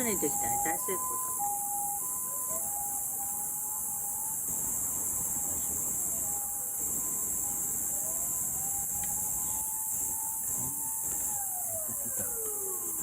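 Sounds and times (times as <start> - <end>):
emergency vehicle siren wailing: 0.0 - 4.7, 5.4 - 13.0
steady high hiss: 0.0 - 13.0.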